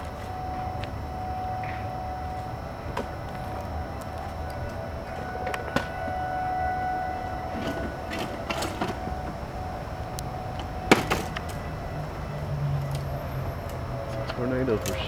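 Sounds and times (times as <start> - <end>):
faint level tone: 0.0 - 13.6
low city rumble: 0.0 - 15.0.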